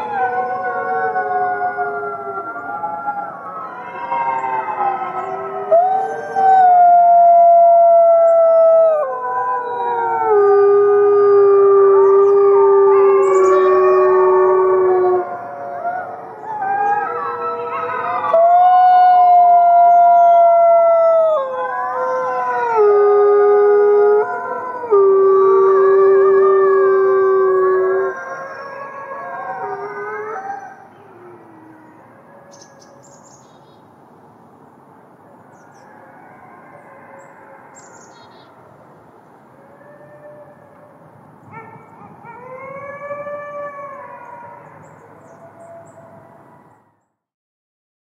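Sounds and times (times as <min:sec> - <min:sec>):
wolves howling in chorus: 0:00.0 - 0:33.2, 0:35.6 - 0:38.6, 0:39.6 - 0:47.0.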